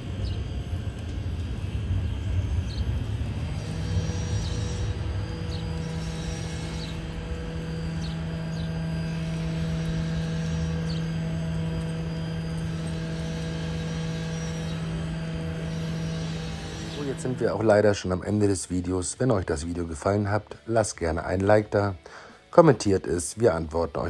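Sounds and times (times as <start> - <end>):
steady low hum: 0.0 - 24.0
high rising chirps: 2.2 - 22.8.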